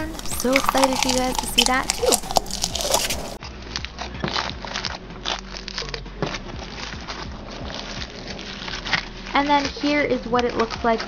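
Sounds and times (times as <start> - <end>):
slime squished by hand crackling: 0.0 - 11.0.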